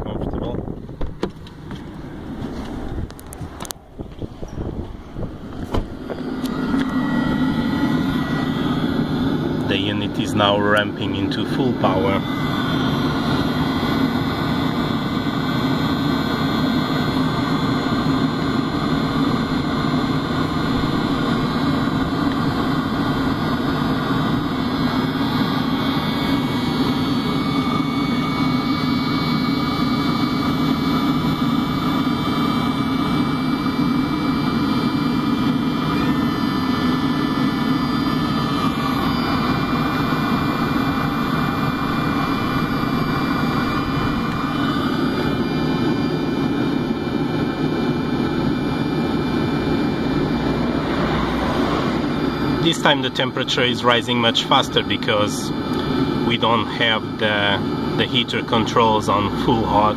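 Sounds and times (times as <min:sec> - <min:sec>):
diesel heater fan rushing: 0:00.0 - 0:59.9.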